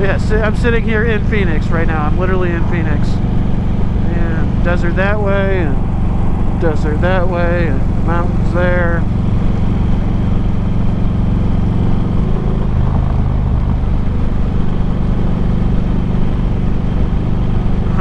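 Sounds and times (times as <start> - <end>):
motorcycle engine running: 0.0 - 18.0
steady rushing noise: 0.0 - 18.0.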